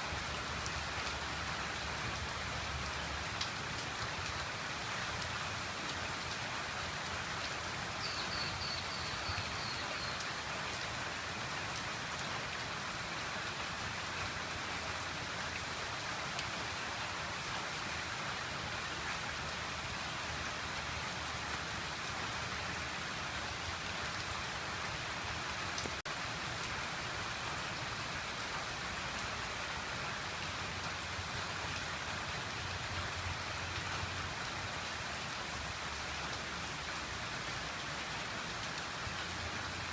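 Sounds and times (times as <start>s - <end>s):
rain hissing and pattering: 0.0s - 39.9s.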